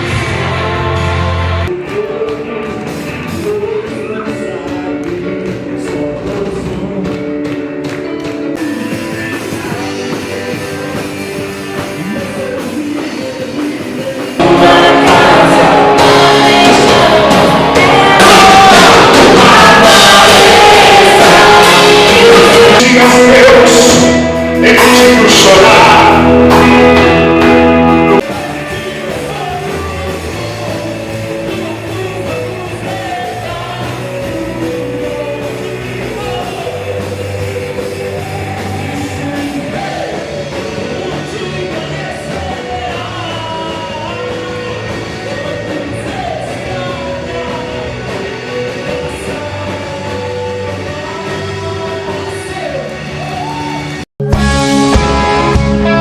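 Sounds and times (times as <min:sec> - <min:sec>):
rock music with singing: 0:00.0 - 0:56.0.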